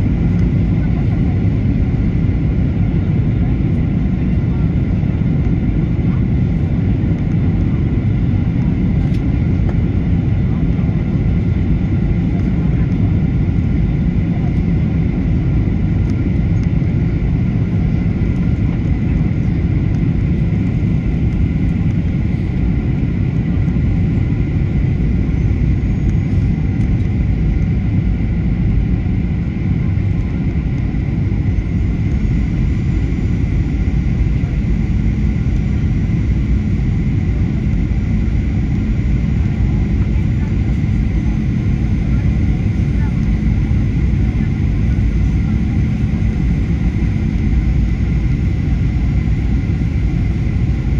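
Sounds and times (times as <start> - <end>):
jet engines low roar: 0.0 - 50.9.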